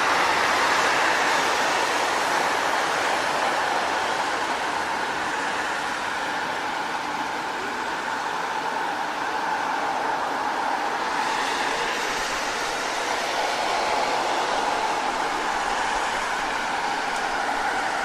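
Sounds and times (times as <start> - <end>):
tyres hissing on wet road: 0.0 - 18.0.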